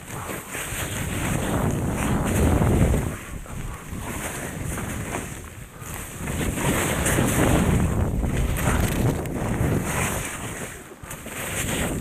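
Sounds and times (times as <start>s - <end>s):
skis scraping over hard snow: 0.0s - 12.0s
wind rushing over microphone: 0.0s - 12.0s.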